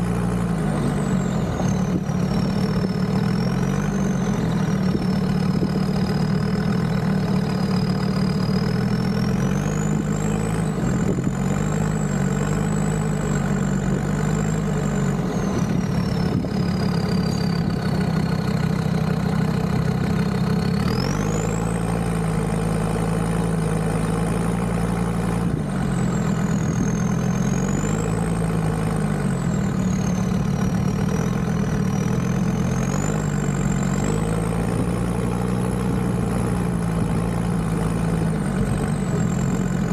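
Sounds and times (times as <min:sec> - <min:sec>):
diesel engine revving while driving: 0:00.0 - 0:39.9.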